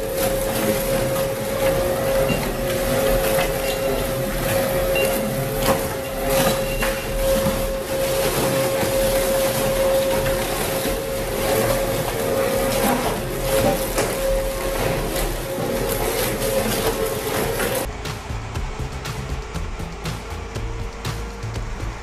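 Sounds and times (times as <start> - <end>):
shredder machine whine: 0.0 - 22.0.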